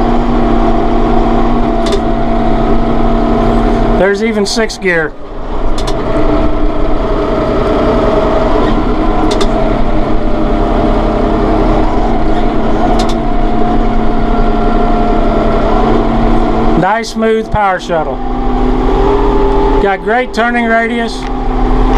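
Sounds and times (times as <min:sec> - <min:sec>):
high engine whine: 0:00.0 - 0:21.9
tractor diesel engine drone: 0:00.0 - 0:21.9.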